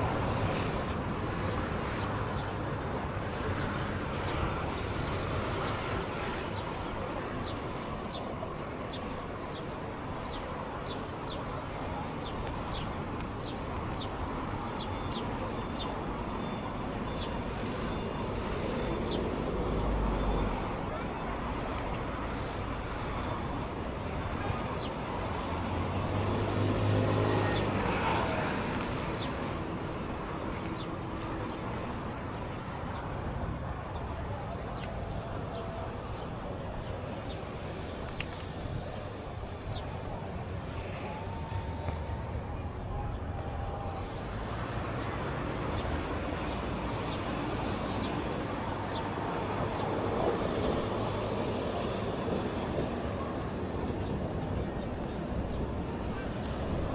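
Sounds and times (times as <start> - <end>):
outdoor traffic background: 0.0 - 56.9.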